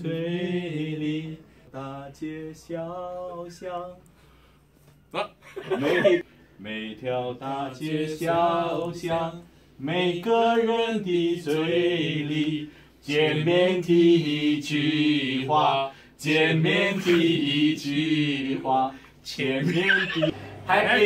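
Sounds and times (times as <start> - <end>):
man singing unaccompanied: 0.0 - 4.0, 6.6 - 21.0.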